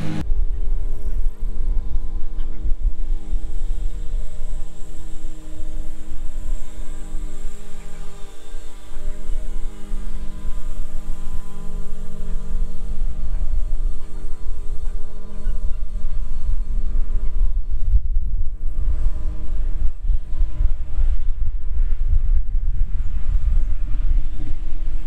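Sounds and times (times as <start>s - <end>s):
distant lawn mower engine: 0.0s - 25.0s
wind buffeting microphone: 0.0s - 25.0s.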